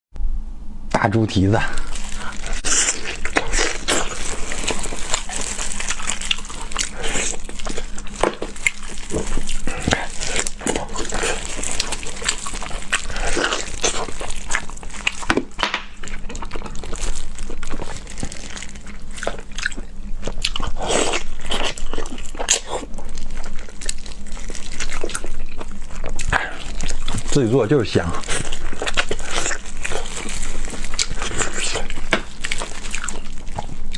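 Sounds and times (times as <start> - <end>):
wet chewing and gnawing: 1.6 - 33.9.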